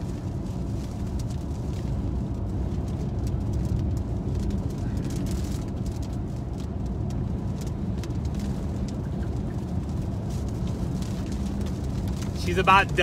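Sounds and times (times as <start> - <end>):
raindrops ticking on windshield: 0.0 - 13.0
road and engine noise in car: 0.0 - 13.0.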